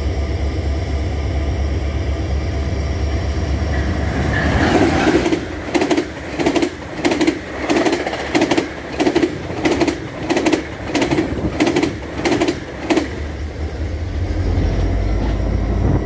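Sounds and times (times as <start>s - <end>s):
train wheels clicking over rail joints: 1.6s - 15.8s.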